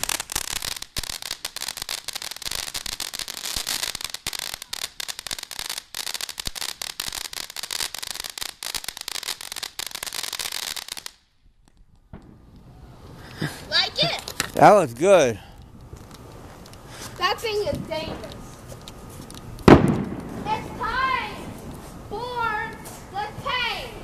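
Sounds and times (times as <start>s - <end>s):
firework hissing and crackling: 0.0s - 11.3s, 12.1s - 24.0s.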